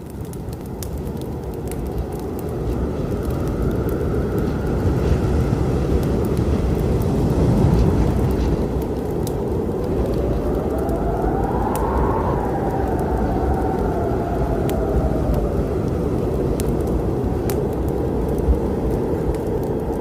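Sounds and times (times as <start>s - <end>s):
wind: 0.0s - 20.0s
wood fire crackles: 0.0s - 20.0s
thunder rumble: 0.1s - 20.0s.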